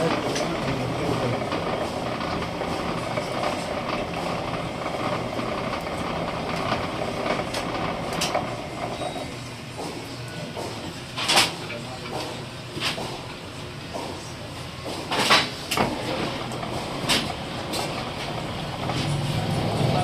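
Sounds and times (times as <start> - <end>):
machinery running: 0.0 - 20.0.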